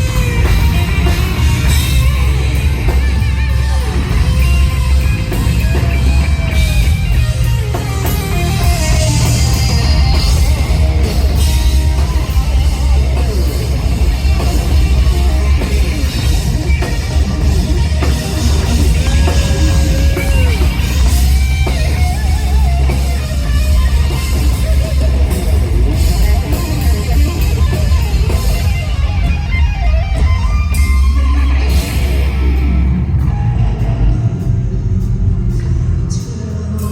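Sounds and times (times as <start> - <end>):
live hard rock band: 0.0 - 36.9.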